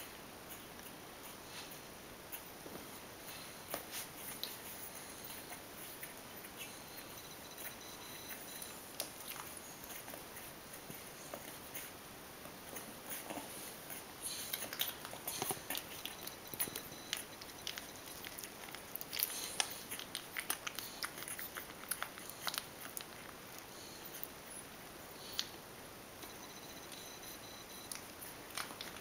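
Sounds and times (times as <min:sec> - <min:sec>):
puppies suckling: 0:00.0 - 0:25.6, 0:27.6 - 0:29.0.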